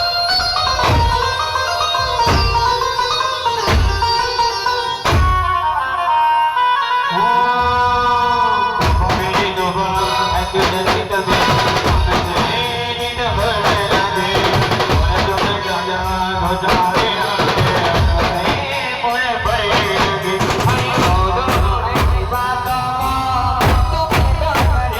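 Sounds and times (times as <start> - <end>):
drums driving beat: 0.0 - 5.8, 8.8 - 24.9.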